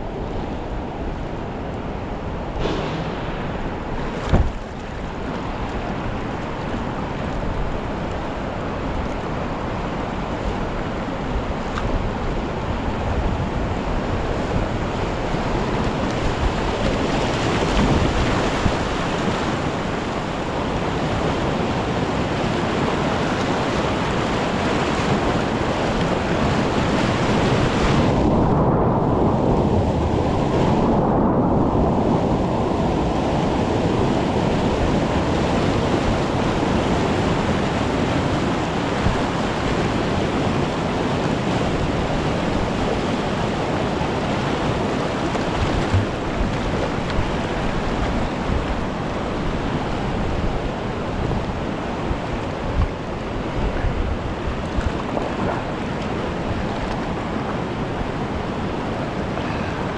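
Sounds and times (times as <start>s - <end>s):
whitewater rapids rushing: 0.0s - 59.9s.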